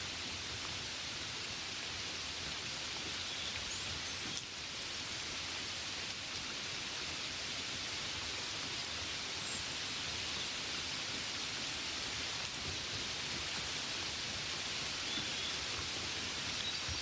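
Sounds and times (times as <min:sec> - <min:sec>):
gentle rain hiss: 0:00.0 - 0:17.0.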